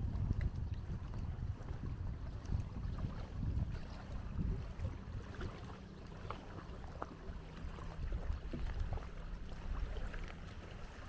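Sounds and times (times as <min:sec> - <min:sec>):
water at shore: 0:00.0 - 0:11.0
wind: 0:00.0 - 0:11.0.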